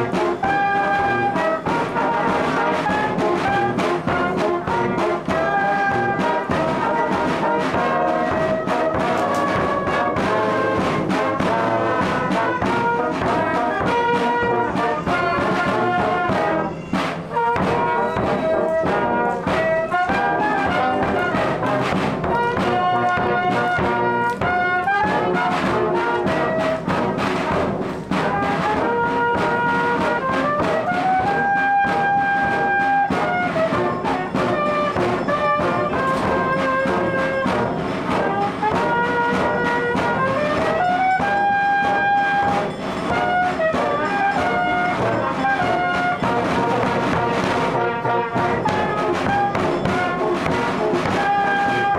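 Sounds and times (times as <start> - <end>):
brass music: 0.0 - 51.9.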